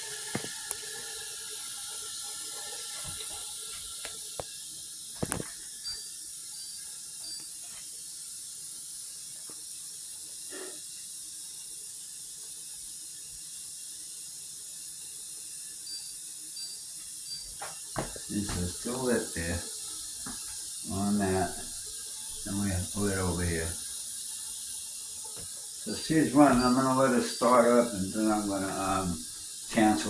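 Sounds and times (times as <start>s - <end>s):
dishwasher filling with water: 0.0s - 30.0s.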